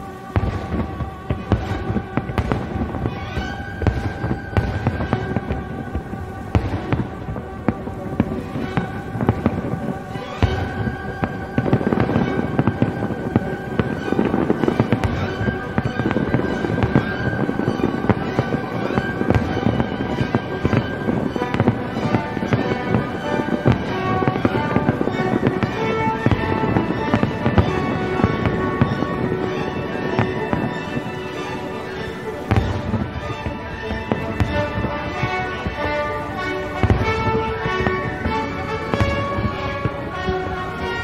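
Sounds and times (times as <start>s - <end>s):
fireworks bursting and crackling: 0.0s - 41.0s
music playing: 0.0s - 41.0s.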